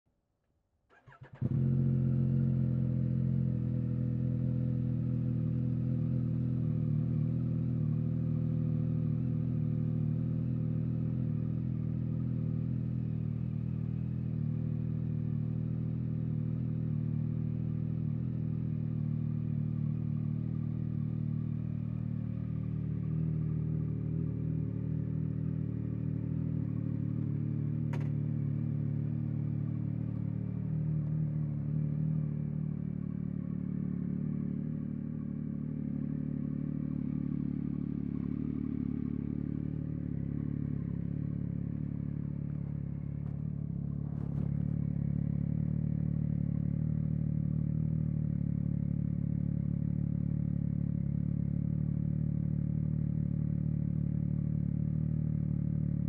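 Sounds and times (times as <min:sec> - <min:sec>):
motorcycle engine idling: 0:01.0 - 0:56.0.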